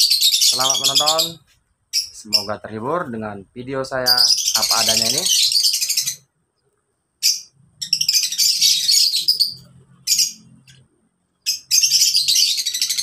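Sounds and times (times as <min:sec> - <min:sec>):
lovebirds chirping shrilly: 0:00.0 - 0:03.0, 0:03.7 - 0:06.4, 0:07.2 - 0:13.0.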